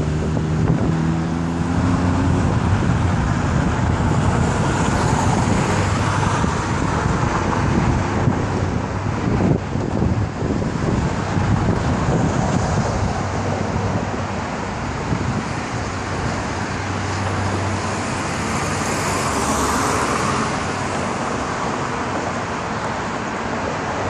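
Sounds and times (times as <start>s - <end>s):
vehicle passing: 0.0s - 9.6s, 10.5s - 24.0s
city road traffic: 0.0s - 24.0s.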